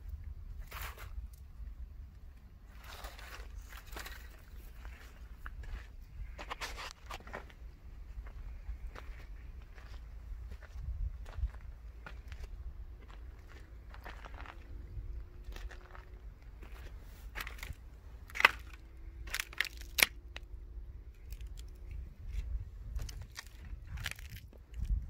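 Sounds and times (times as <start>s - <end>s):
crunching footsteps: 2.6s - 20.5s, 21.1s - 25.0s.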